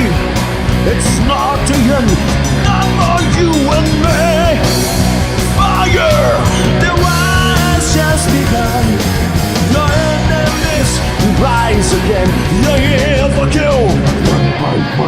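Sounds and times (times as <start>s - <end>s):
rock band playing live: 0.0s - 15.0s
wavering lead guitar line: 0.0s - 15.0s.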